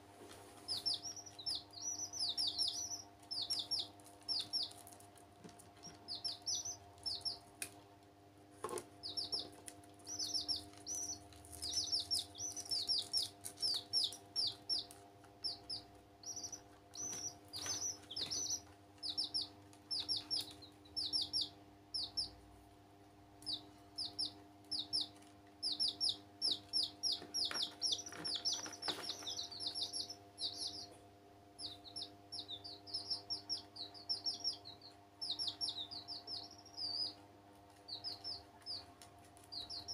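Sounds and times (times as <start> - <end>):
baby chicks peeping: 0.1 - 22.7, 23.4 - 39.9.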